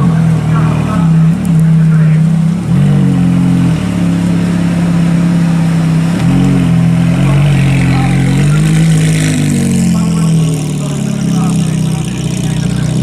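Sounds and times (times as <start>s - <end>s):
loud car engine revving: 0.0s - 13.0s.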